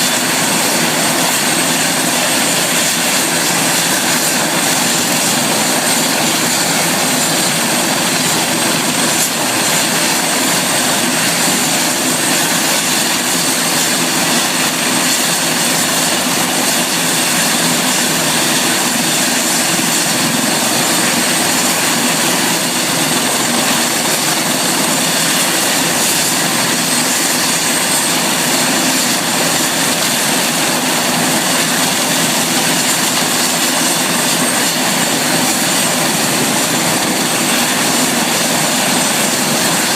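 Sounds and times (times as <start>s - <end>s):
helicopter engine and rotor: 0.0s - 39.9s
high steady whine: 0.0s - 39.9s.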